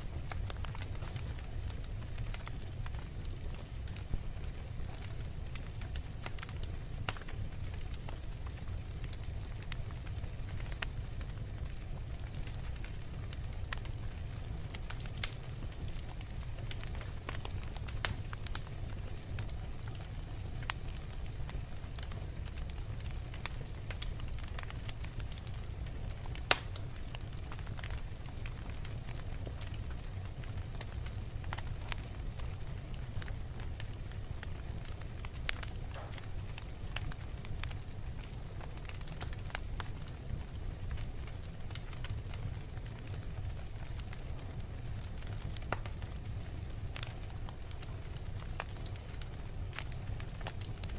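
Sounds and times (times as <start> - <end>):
fire crackles and snaps: 0.0 - 50.9
logs burning in fireplace: 0.0 - 50.9.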